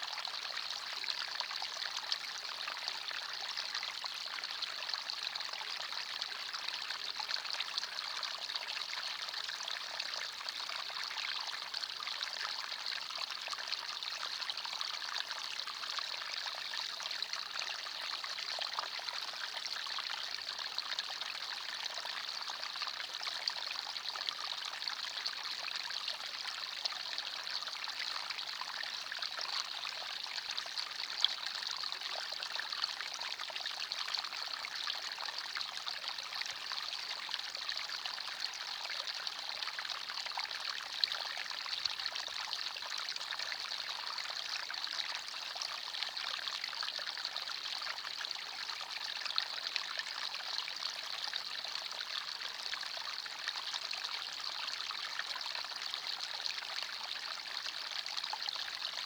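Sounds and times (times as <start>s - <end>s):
stream trickling over stones: 0.2s - 59.0s.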